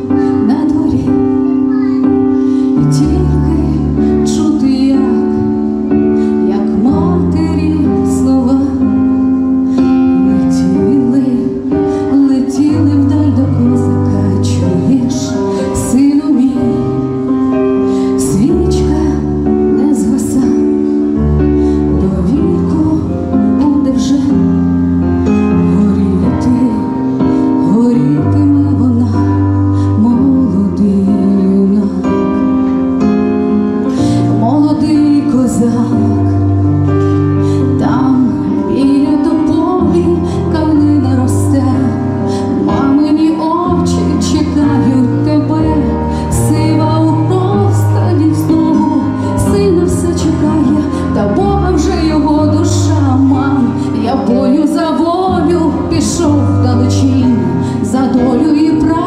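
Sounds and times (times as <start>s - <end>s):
woman singing into a microphone: 0.0s - 59.0s.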